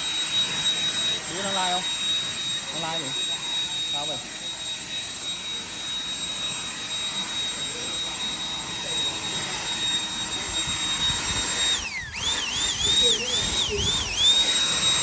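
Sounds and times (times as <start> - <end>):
high-pitched power tool whine: 0.0 - 15.0.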